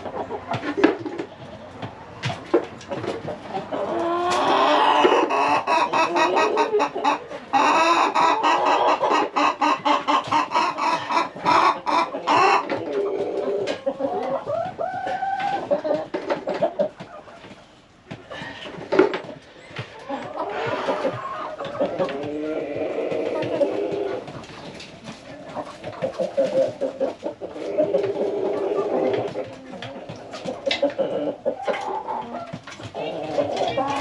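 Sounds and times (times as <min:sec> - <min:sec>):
chickens clucking and squawking: 0:00.0 - 0:34.0.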